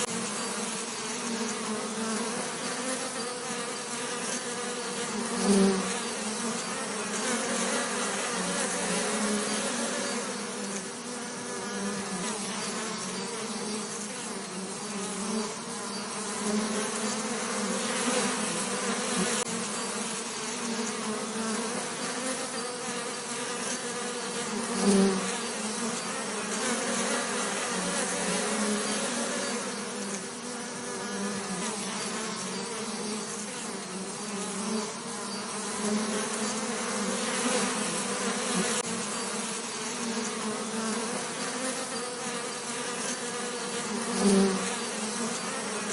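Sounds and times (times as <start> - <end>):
bees buzzing: 0.0 - 45.9.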